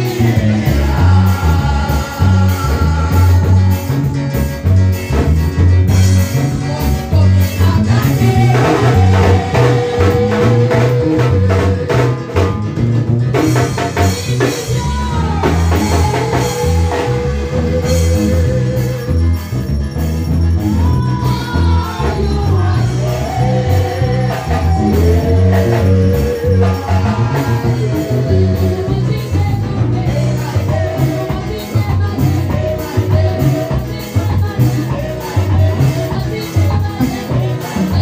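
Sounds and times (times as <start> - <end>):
gospel singing: 0.0 - 38.0
heavy bass line: 0.0 - 38.0
steady percussion: 0.0 - 38.0.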